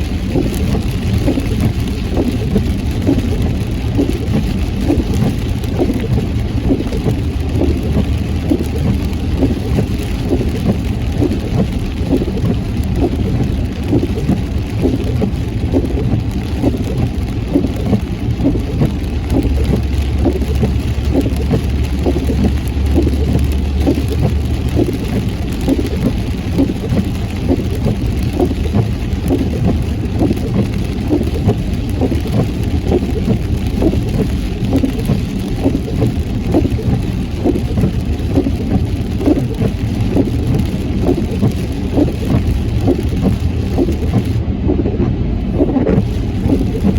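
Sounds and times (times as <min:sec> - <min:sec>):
car road and engine noise: 0:00.0 - 0:46.9
heavy rain on a car: 0:00.0 - 0:46.9.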